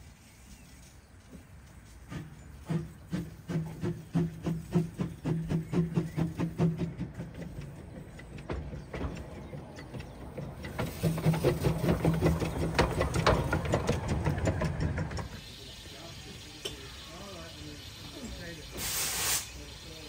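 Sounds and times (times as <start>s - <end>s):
steam locomotive passing slowly: 0.0s - 20.0s.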